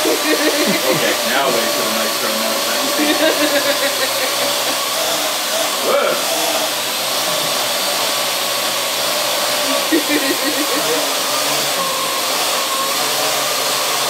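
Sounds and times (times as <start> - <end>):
drone rotors whirring: 0.0 - 14.0.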